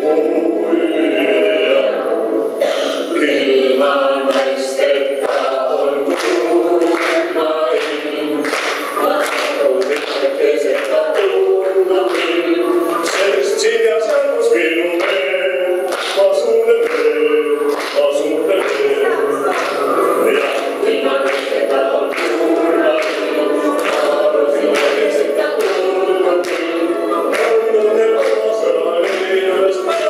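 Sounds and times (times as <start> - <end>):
voices singing without instruments: 0.0 - 30.0.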